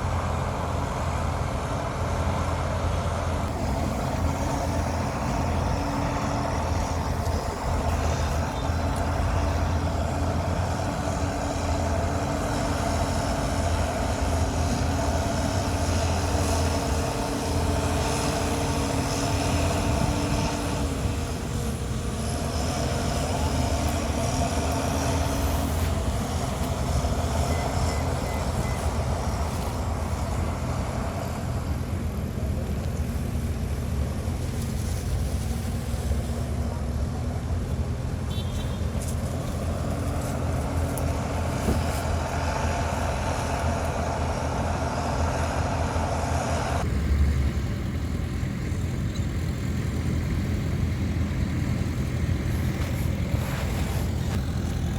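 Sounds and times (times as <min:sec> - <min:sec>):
diesel engine running under load: 0:00.0 - 0:54.9.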